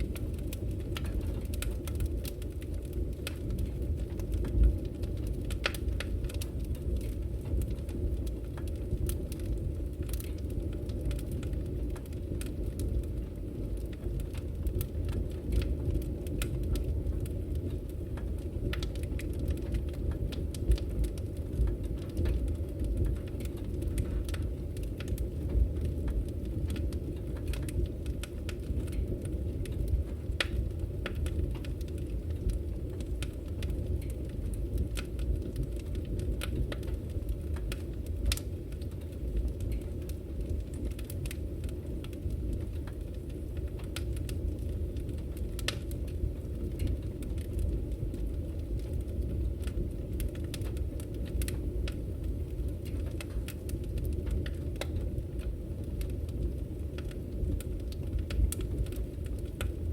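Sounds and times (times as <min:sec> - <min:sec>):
low rush of flames: 0:00.0 - 0:59.9
wood fire crackling and popping: 0:00.0 - 0:59.9.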